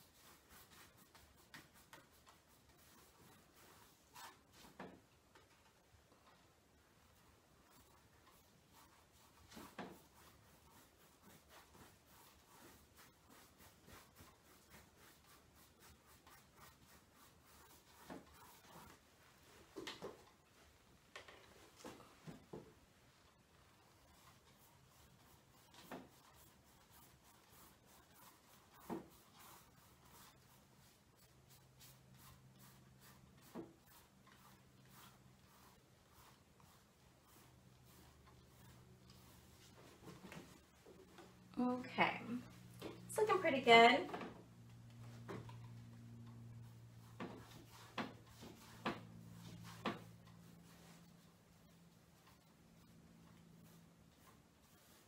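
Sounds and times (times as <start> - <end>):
paintbrush brushing on canvas: 0.0 - 5.0, 7.0 - 20.8, 21.6 - 55.0
low steady hum: 0.0 - 55.0.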